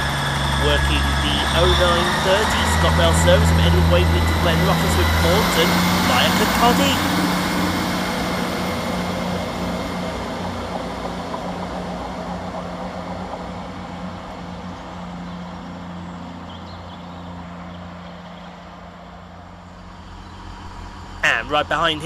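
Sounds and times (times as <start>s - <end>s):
diesel train engine: 0.0s - 22.0s.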